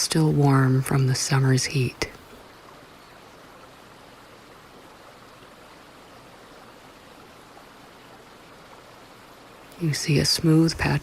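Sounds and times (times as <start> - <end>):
brook running water: 0.0 - 11.0.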